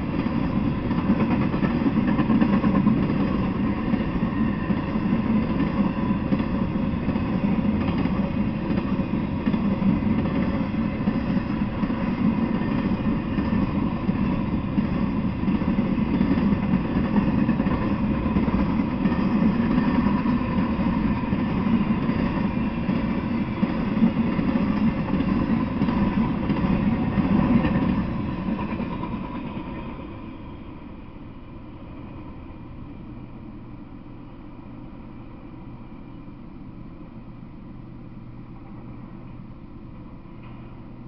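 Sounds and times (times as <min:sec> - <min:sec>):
freight cars rumbling on rails: 0:00.0 - 0:33.3.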